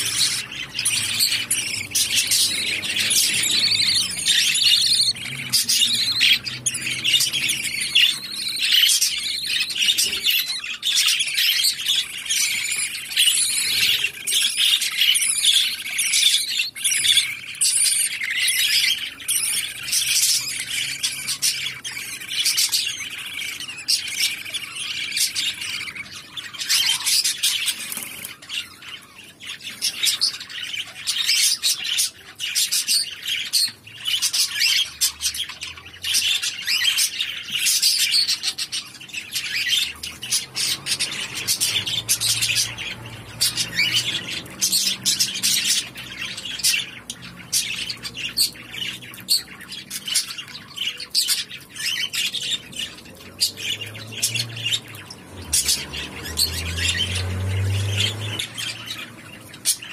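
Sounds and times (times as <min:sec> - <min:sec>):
budgerigar nestlings chirping: 0:00.0 - 0:59.9.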